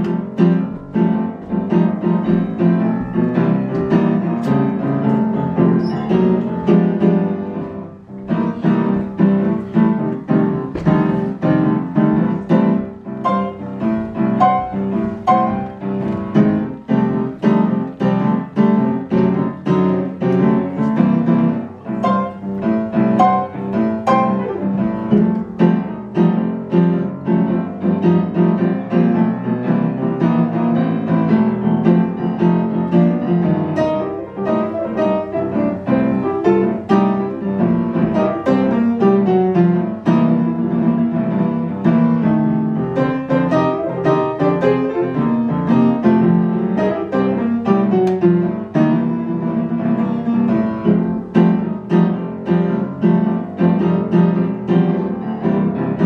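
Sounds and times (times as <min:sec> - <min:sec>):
jazz piano playing: 0:00.0 - 0:56.0.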